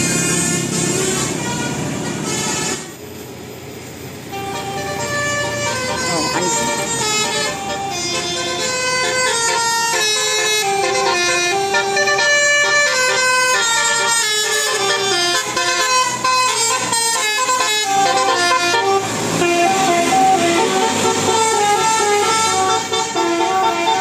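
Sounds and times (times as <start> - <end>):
multi-note air horn tune: 0.1 - 2.9, 4.3 - 24.0.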